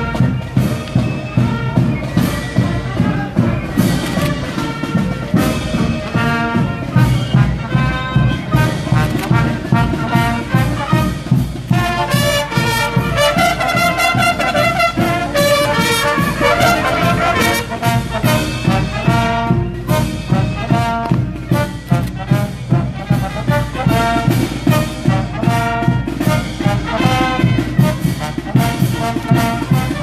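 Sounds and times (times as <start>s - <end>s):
brass bugle melody: 0.0s - 30.0s
steady drum beat: 0.0s - 30.0s.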